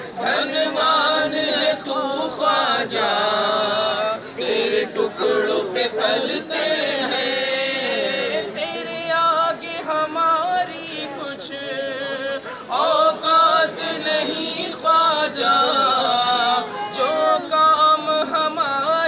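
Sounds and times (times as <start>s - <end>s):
men singing unaccompanied: 0.0s - 19.0s.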